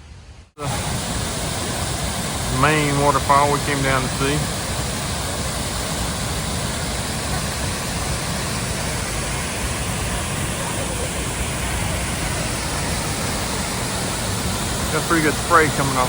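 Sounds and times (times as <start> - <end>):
waterfall rushing: 0.6 - 16.0.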